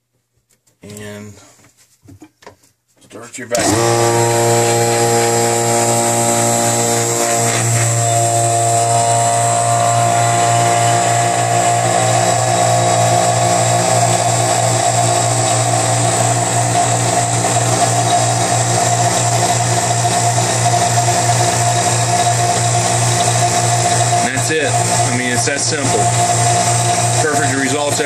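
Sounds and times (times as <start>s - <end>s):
vacuum pump running: 3.5s - 28.0s.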